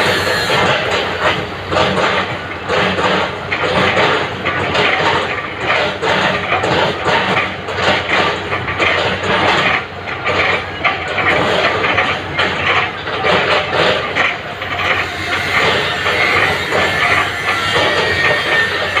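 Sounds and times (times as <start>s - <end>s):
excavator clatter and hiss: 0.0s - 19.0s.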